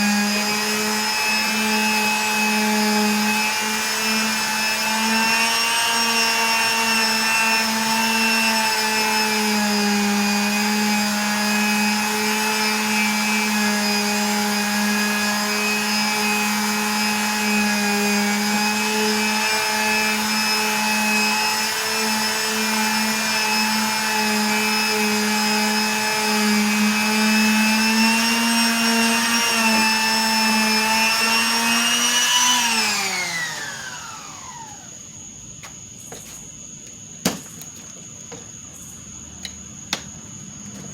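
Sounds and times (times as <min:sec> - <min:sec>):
power tool motor running: 0:00.0 - 0:35.0.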